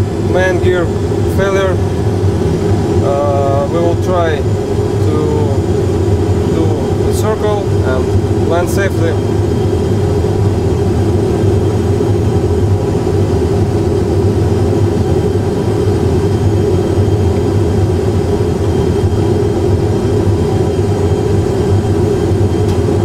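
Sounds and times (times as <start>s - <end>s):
deep hum: 0.0s - 23.0s
engine and airflow drone: 0.0s - 23.0s.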